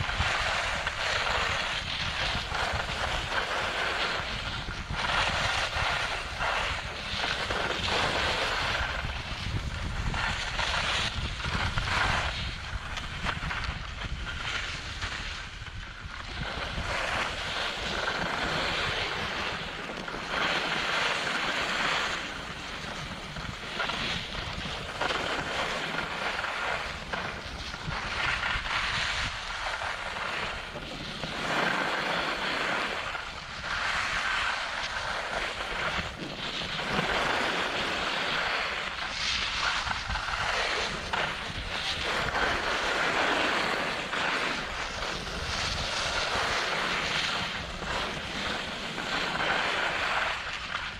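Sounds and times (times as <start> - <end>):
skis scraping over snow: 0.0 - 50.9
wind buffeting microphone: 0.0 - 50.9.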